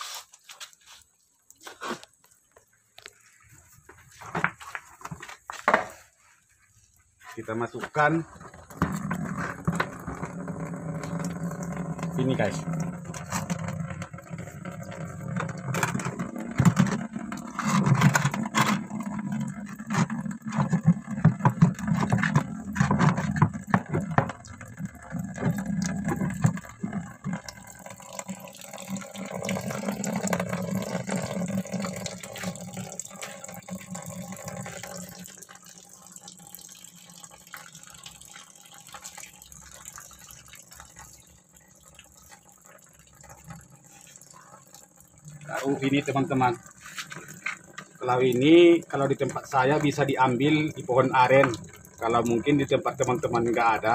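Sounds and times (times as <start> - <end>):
tap water pouring into bucket: 0.0 - 53.9.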